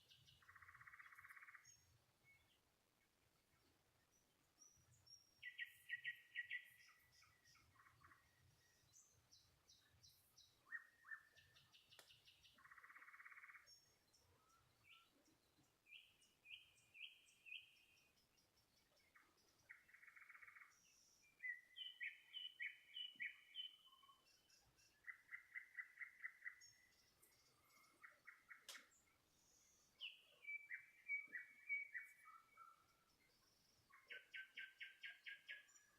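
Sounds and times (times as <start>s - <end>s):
songbird singing faintly: 0.0s - 35.9s.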